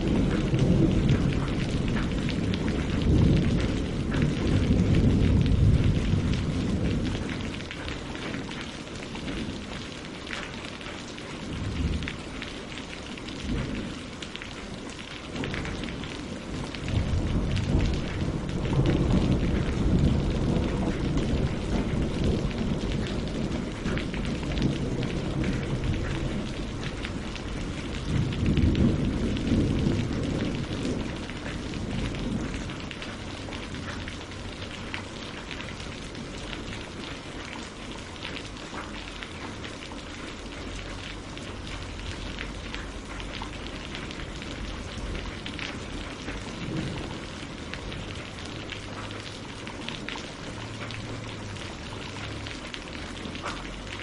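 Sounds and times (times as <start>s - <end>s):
thunder rumbling: 0.0s - 38.6s, 40.2s - 54.0s
rain pattering on water and leaves: 0.0s - 54.0s.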